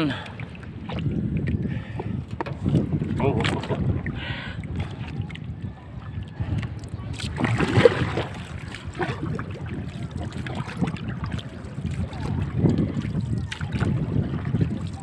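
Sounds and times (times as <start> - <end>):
boat engine rumbling: 0.0 - 15.0
water splashing along hull: 0.0 - 15.0.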